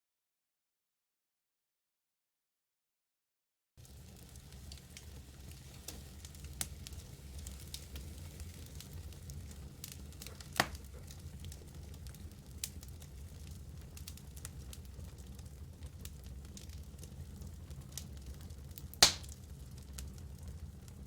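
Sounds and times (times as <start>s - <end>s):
fire rumbling: 3.8s - 21.0s
wood crackles and pops: 3.8s - 21.0s.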